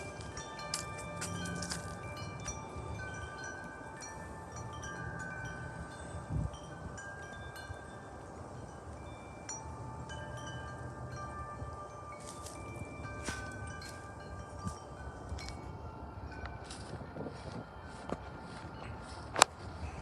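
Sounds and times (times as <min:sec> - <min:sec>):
low wind rumble: 0:00.0 - 0:20.0
metal wind chimes ringing: 0:00.0 - 0:20.0.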